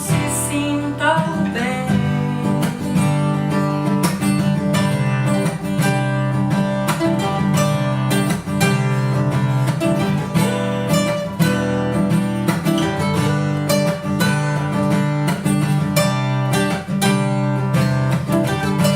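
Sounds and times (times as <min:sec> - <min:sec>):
acoustic guitar strumming chords: 0:00.0 - 0:18.9.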